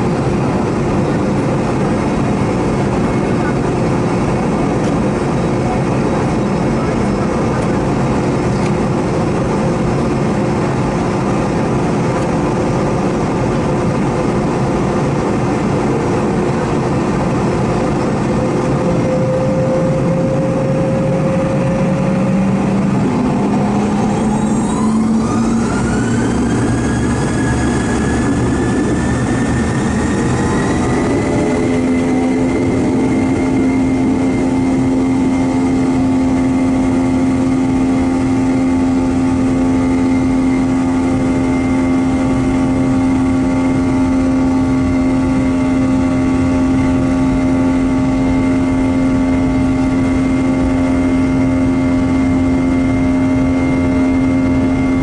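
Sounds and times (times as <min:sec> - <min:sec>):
jet engines spooling up: 0:00.0 - 0:55.0.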